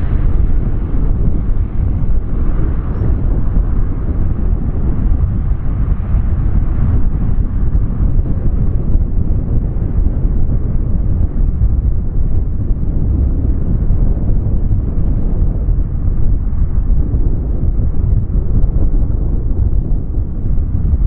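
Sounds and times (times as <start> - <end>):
turboprop engines rumbling: 0.0 - 21.0.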